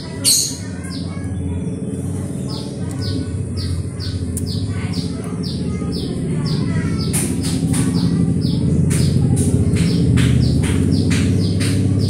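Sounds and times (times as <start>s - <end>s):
sparrows chirping: 0.0s - 12.0s
steady low hum: 0.0s - 12.0s.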